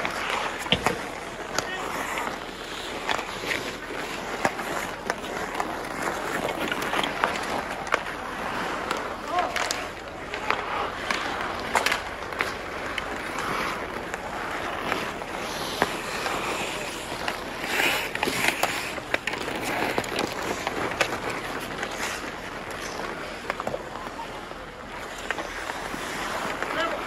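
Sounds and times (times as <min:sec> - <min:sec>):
hockey sticks clacking on puck: 0:00.0 - 0:27.0
skates scraping ice: 0:00.0 - 0:27.0.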